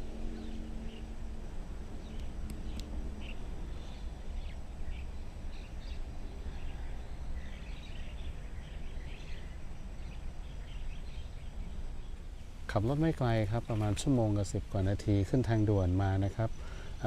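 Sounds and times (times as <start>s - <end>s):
birds chirping: 0.0s - 1.2s, 1.9s - 17.0s.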